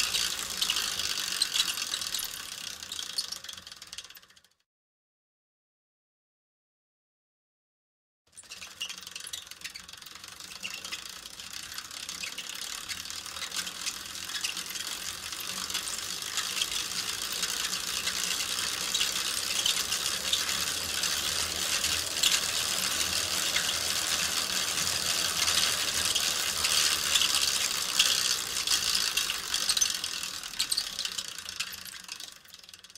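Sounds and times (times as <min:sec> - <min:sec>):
bicycle freewheel ticking: 0:00.0 - 0:04.6, 0:08.3 - 0:32.9.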